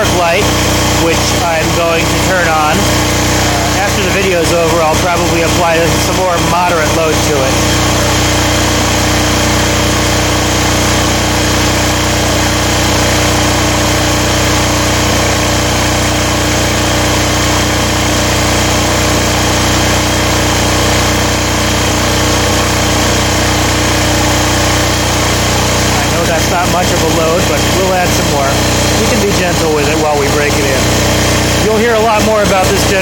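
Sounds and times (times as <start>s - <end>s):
diesel generator running: 0.0s - 33.0s.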